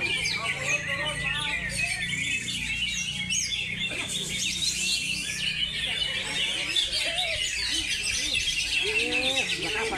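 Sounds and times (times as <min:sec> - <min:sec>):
songbirds chorus: 0:00.0 - 0:09.9.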